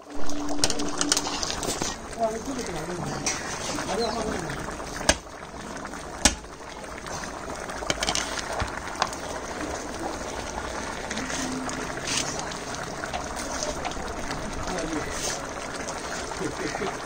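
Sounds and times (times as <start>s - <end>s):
pot simmering with bubbling hiss: 0.0s - 17.0s.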